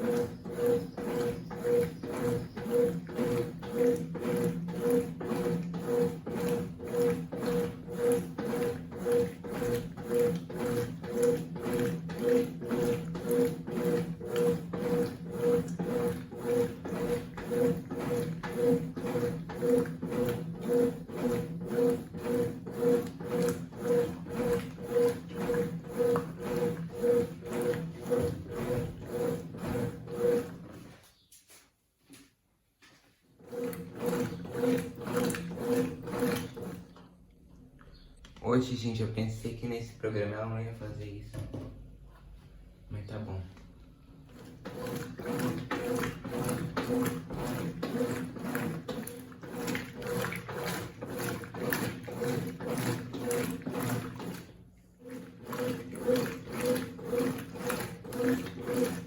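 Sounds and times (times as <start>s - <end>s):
washing machine pulsing hum: 0.0s - 31.1s, 33.3s - 59.0s.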